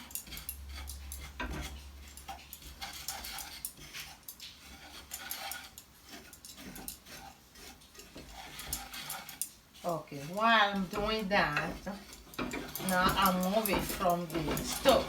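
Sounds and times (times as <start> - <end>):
spoon scraping cornmeal in pot: 0.0 - 15.0.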